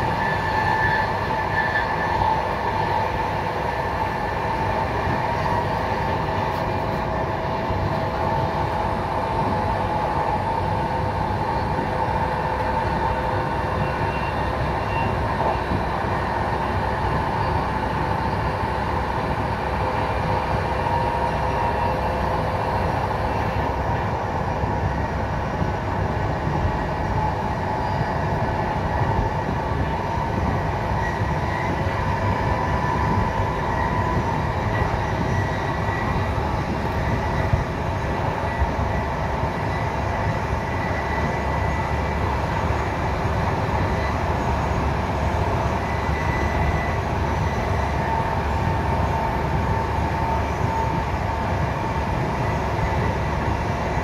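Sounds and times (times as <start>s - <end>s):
faint whine of running gear: 0.0s - 54.0s
train wheels rumbling on rail: 0.0s - 54.0s.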